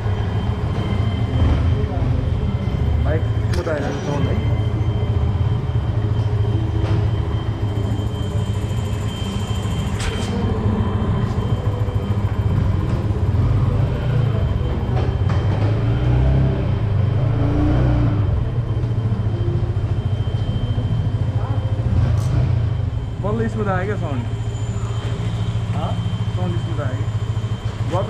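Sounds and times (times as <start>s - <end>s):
motorcycle engine low rumble: 0.0s - 28.0s.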